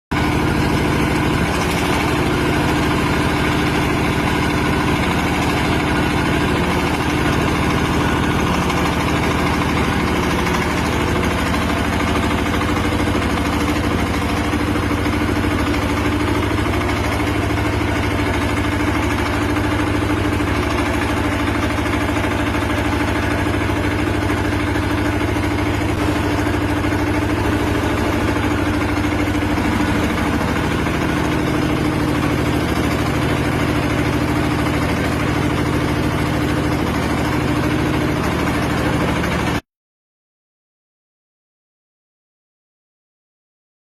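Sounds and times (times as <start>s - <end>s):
diesel generator engine running: 0.1s - 39.6s.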